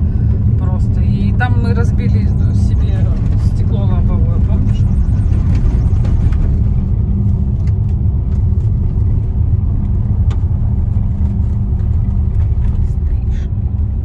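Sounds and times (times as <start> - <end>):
car tyres rumbling on gravel: 0.0 - 14.0.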